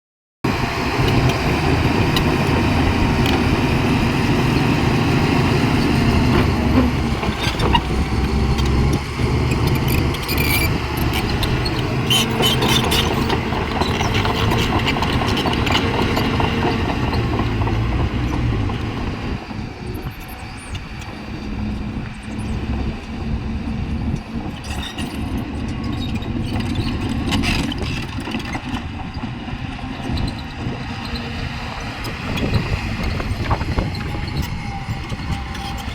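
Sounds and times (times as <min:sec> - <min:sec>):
bulldozer diesel engine: 0:00.4 - 0:35.9.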